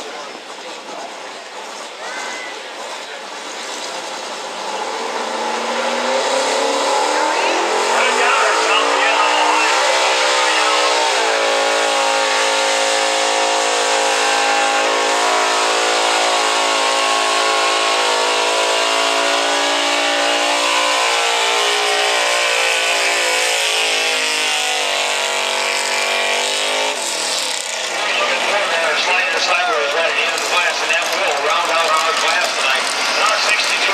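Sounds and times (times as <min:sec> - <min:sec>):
truck engine at high revs: 0:02.6 - 0:33.9.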